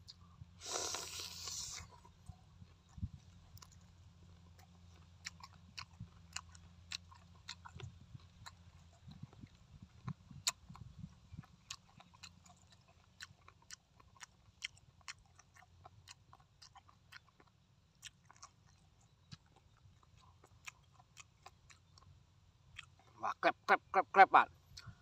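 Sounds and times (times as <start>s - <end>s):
person chewing food: 0.0s - 23.2s, 24.7s - 25.0s.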